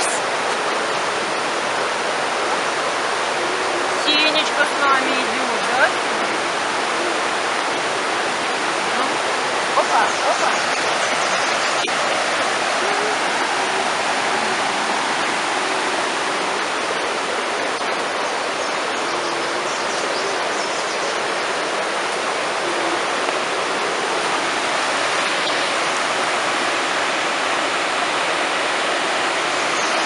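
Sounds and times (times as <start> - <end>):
mountain river rushing: 0.0 - 30.0.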